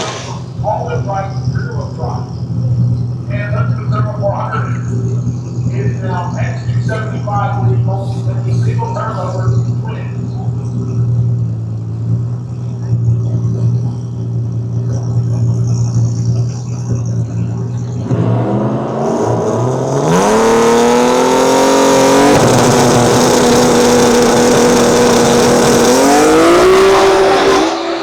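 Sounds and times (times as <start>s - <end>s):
race car engine idling and revving: 0.0s - 28.0s.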